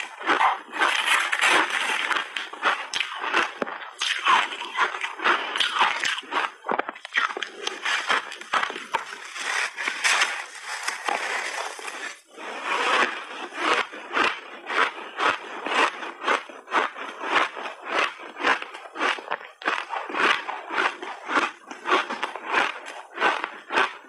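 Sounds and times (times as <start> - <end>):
chewing icy mouthful: 0.0 - 24.0
crunching ice: 0.0 - 24.0.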